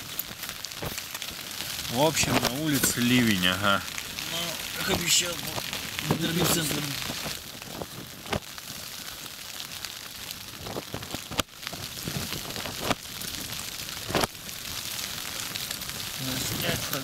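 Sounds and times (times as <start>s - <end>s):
rain on a fabric tent: 0.0s - 17.0s.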